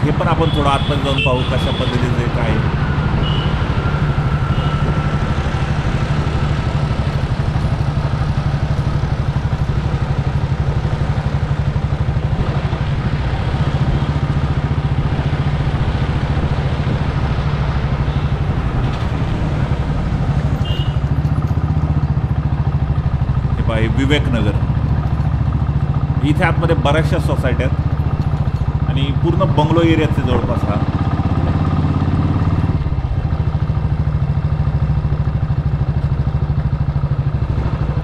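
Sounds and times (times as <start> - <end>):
motorcycle engine running: 0.0 - 38.0
road noise: 0.0 - 38.0.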